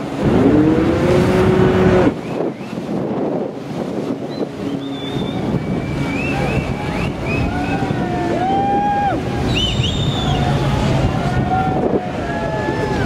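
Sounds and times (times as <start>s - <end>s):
river water rushing: 0.0s - 13.0s
wind buffeting microphone: 0.0s - 13.0s.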